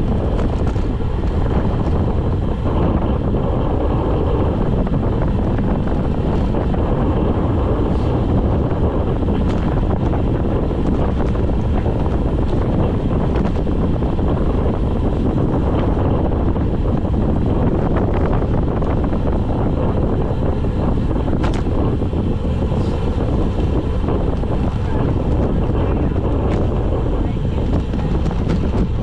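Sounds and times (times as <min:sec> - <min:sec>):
heavy wind rush over microphone: 0:00.0 - 0:29.0.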